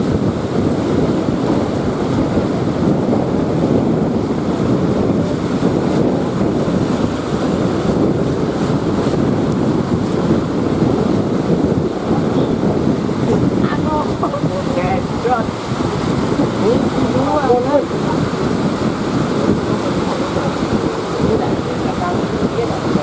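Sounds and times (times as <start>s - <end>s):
surf breaking on rocks: 0.0s - 23.0s
wind buffeting microphone: 0.0s - 23.0s.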